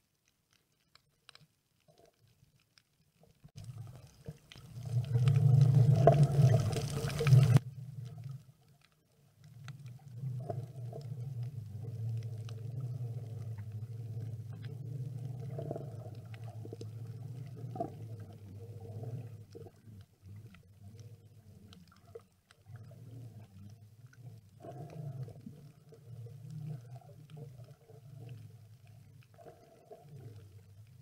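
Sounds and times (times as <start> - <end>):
faint clicks: 0.0 - 31.0
low underwater rumbling hum: 0.0 - 31.0.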